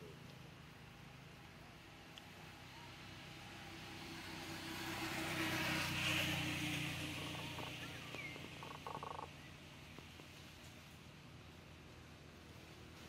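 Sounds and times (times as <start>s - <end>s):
motor vehicle passing by: 0.0s - 13.0s.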